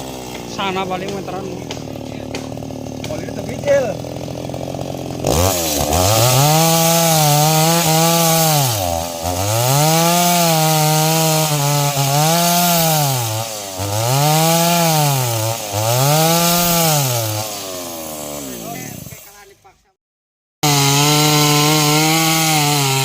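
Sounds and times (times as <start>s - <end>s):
chainsaw cutting wood: 0.0s - 19.6s, 20.6s - 23.0s.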